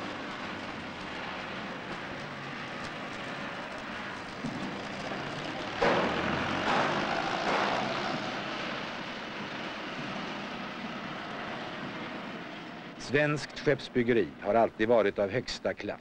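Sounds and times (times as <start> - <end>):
rushing machinery noise: 0.0 - 14.8.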